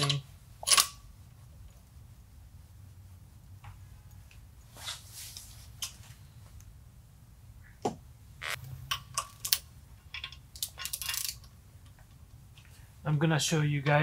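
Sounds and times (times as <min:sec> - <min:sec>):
low steady shop hum: 0:00.0 - 0:14.0.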